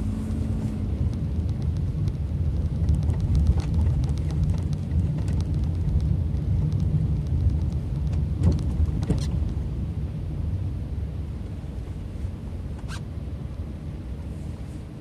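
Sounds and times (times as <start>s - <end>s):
road and engine noise in car cabin: 0.0s - 15.0s.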